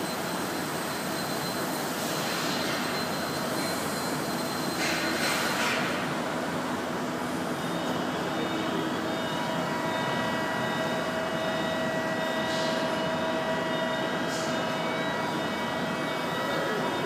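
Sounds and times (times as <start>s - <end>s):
hydraulic press hum and whine: 0.0s - 17.0s.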